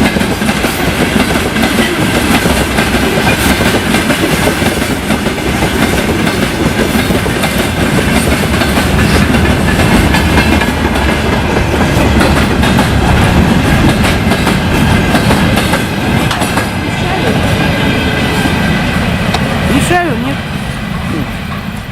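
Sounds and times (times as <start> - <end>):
freight train rumbling past: 0.0 - 21.9.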